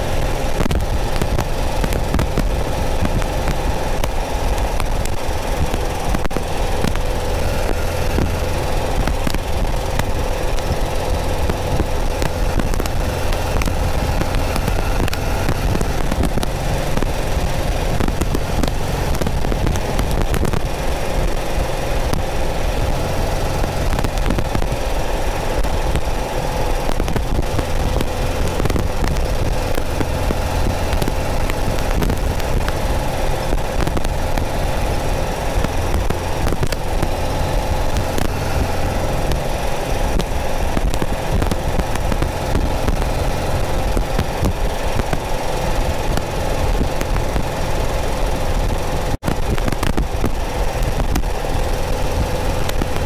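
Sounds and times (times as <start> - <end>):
car engine cruising: 0.0 - 53.0
road and wind noise: 0.0 - 53.0
sharp clicks crackling: 0.0 - 53.0.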